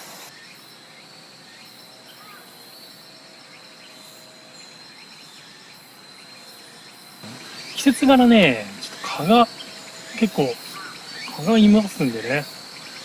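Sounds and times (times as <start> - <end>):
faint insect chirps: 0.0 - 13.0
insects trilling: 0.0 - 13.0.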